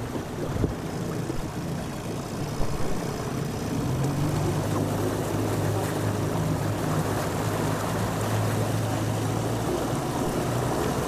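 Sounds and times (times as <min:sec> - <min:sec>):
outboard motor droning: 0:00.0 - 0:11.0
water moving past hull: 0:00.0 - 0:11.0.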